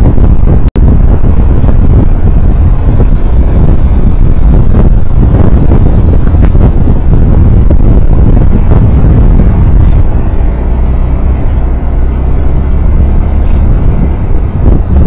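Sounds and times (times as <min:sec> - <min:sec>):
vehicle rumbling on road: 0:00.0 - 0:15.0
wind buffeting microphone: 0:00.0 - 0:15.0.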